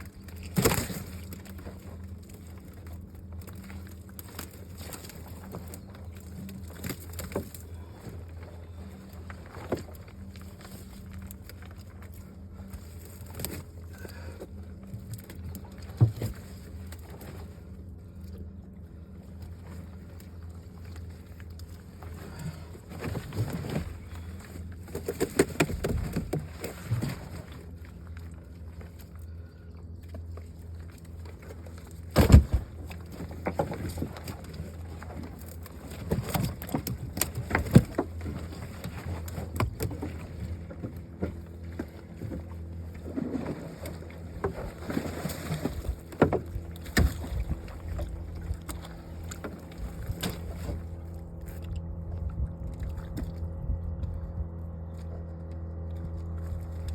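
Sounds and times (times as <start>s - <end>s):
boat motor idling: 0.0s - 56.9s.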